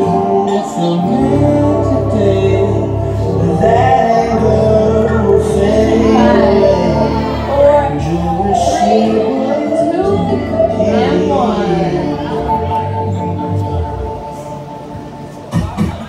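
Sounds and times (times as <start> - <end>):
person singing: 0.0 - 14.8
low bass notes: 0.0 - 15.9.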